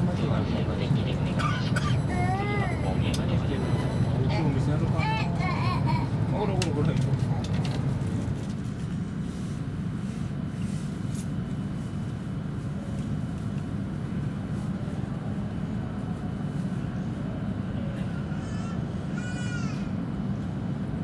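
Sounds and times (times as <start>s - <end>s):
train running low rumble: 0.0s - 21.0s.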